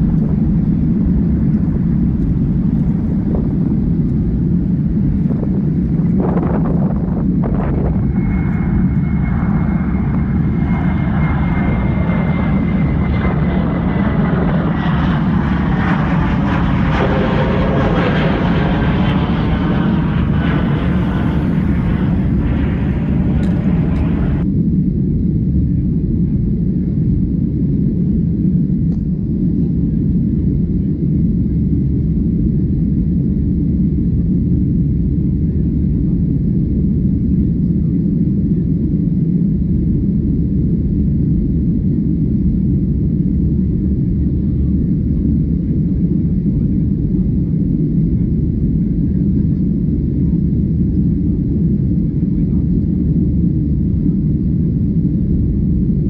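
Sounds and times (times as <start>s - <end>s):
airliner low roar: 0.0s - 56.0s.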